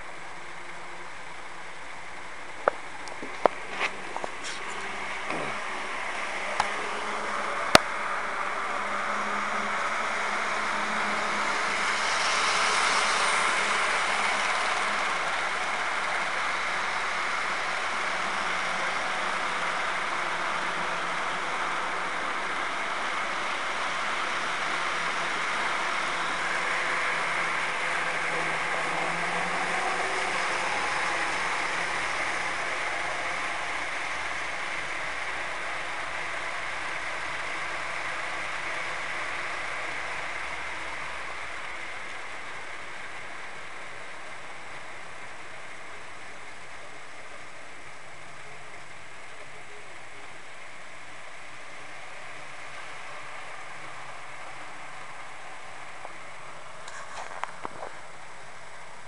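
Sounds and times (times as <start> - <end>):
model train motor whirring: 0.0 - 59.0.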